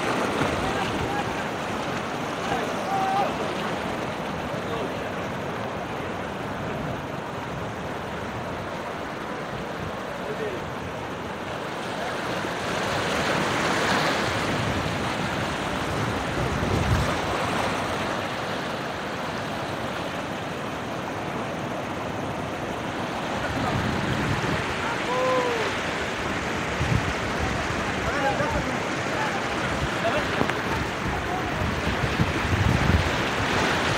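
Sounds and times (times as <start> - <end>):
surf washing over boulders: 0.0 - 33.9.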